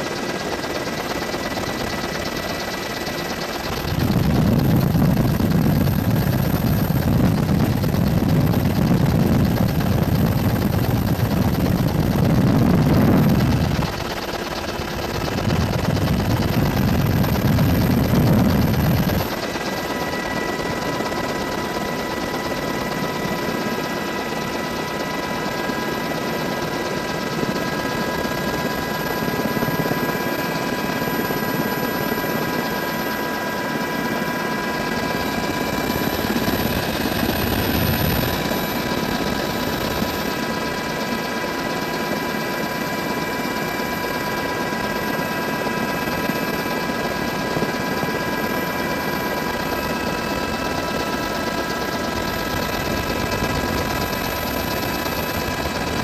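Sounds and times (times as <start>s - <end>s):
helicopter drone: 0.0s - 56.0s
high steady whines: 0.0s - 56.0s.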